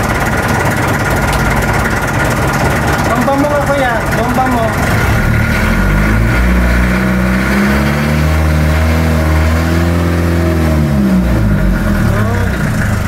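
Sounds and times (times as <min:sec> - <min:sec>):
boat diesel engine revving: 0:00.0 - 0:13.0.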